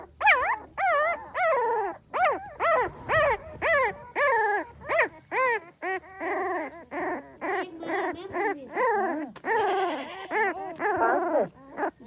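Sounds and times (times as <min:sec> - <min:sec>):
puppy whimpering: 0:00.0 - 0:12.0.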